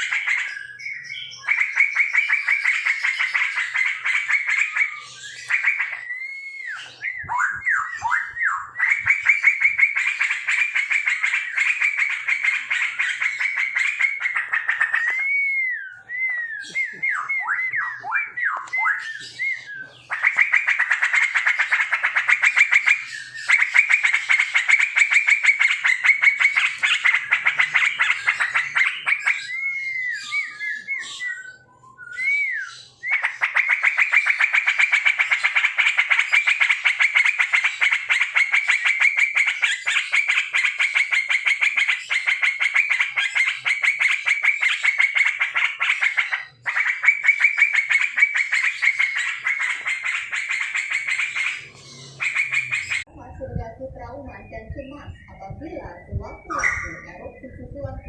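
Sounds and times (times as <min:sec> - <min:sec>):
birds chattering: 0:00.0 - 0:58.0
swooping whistled bird notes: 0:00.0 - 0:58.0.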